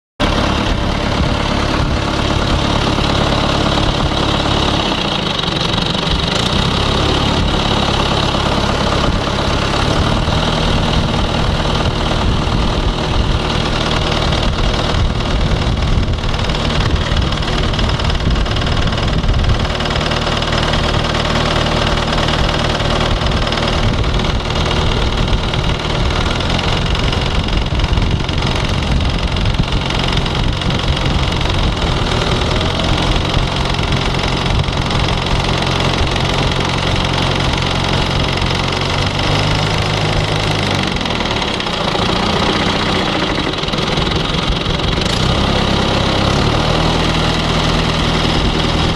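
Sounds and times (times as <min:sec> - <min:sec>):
rapid engine knocking: 0:00.2 - 0:48.9
tractor diesel engine running: 0:00.2 - 0:48.9.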